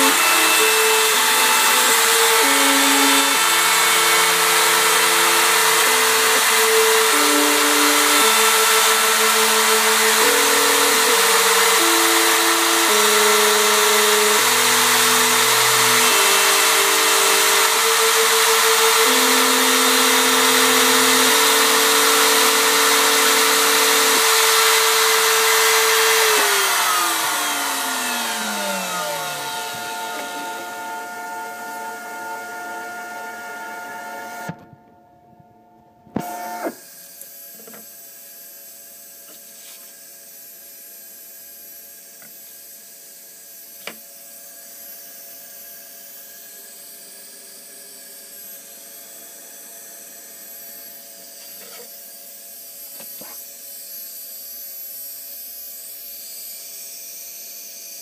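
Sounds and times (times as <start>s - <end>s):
router spindle whining: 0.0s - 34.7s, 36.1s - 58.0s.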